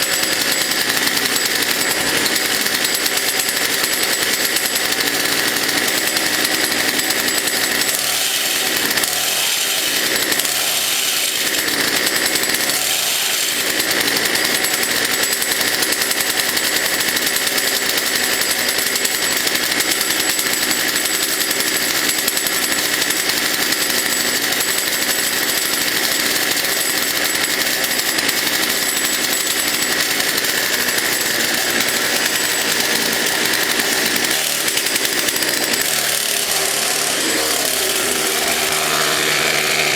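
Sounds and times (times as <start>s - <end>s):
two-stroke engine buzzing drone: 0.0s - 39.9s.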